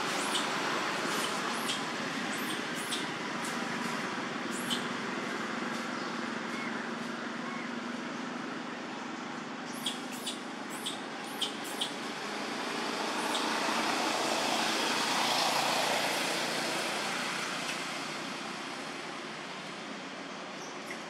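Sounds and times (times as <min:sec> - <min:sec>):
road vehicle passing: 0:00.0 - 0:21.0.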